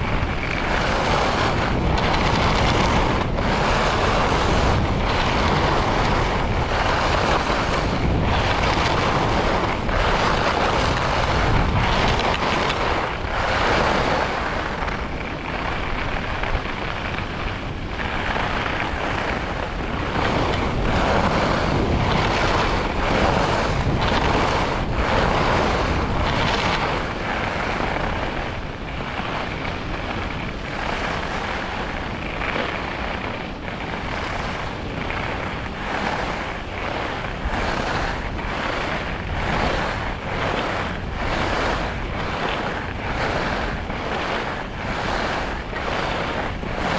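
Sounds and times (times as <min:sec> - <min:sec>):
skis hissing and scraping on snow: 0:00.0 - 0:46.9
wind rushing over microphone: 0:00.0 - 0:46.9.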